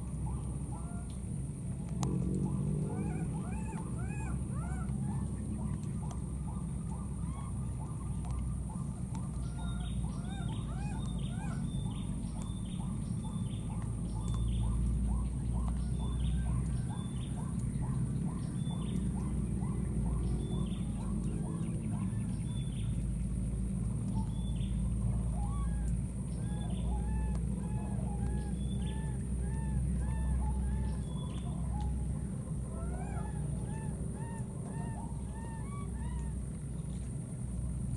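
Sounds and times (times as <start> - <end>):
birds calling: 0.0 - 37.9.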